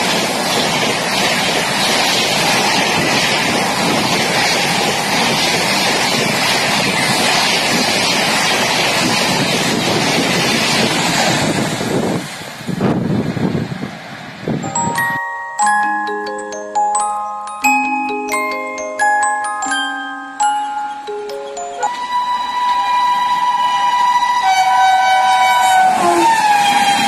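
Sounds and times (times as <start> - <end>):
train passing at speed: 0.0 - 27.0.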